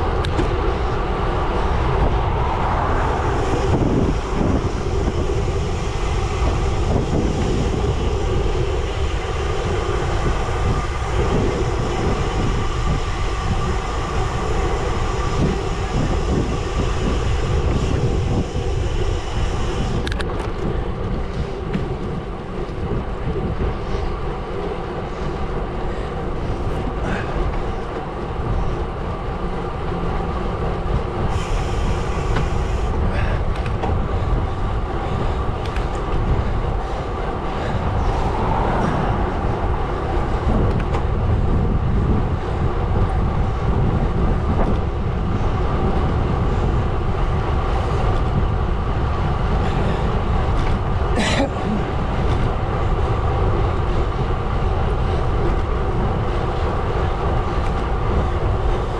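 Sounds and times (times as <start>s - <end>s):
low tonal hum: 0.0s - 58.9s
wind rumbling on microphone: 0.0s - 58.9s.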